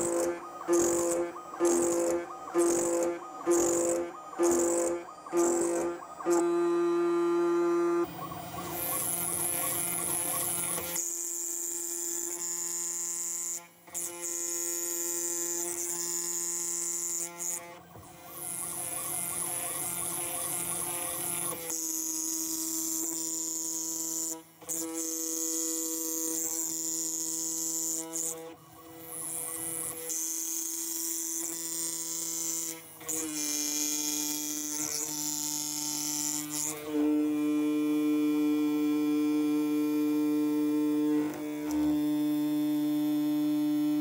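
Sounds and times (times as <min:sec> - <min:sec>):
cnc router spindle whine: 0:00.0 - 0:44.0.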